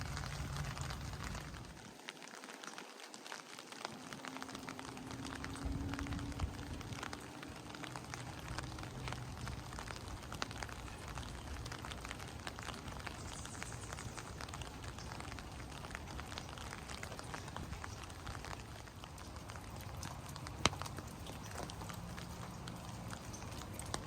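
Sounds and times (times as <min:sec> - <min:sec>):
rain falling: 0:00.0 - 0:24.0
raindrops ticking on surfaces: 0:00.0 - 0:24.0.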